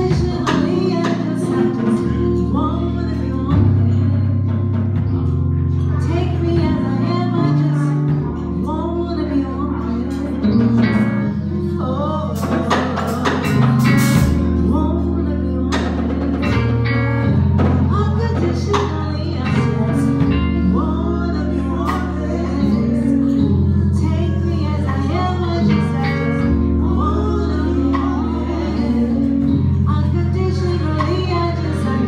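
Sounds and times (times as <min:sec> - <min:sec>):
deep bass line: 0:00.0 - 0:32.0
live band playing: 0:00.0 - 0:32.0
person singing: 0:00.0 - 0:32.0.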